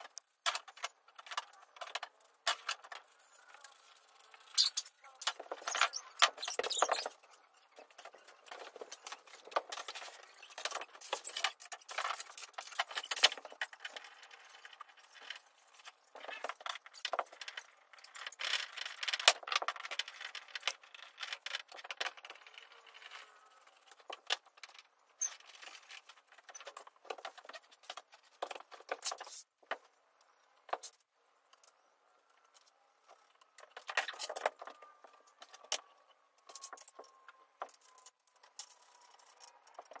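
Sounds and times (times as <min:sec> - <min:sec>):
wooden parts knocking and scraping: 0:00.0 - 0:31.8, 0:32.4 - 0:40.0.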